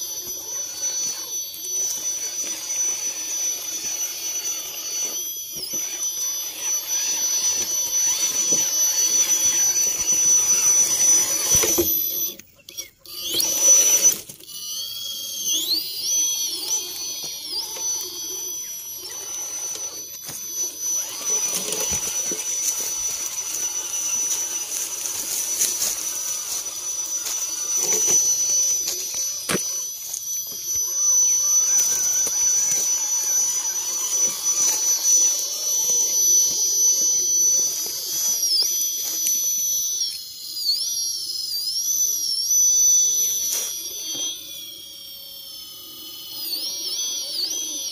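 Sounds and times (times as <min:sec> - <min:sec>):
toy car electric motor whining: 0:00.0 - 0:47.9.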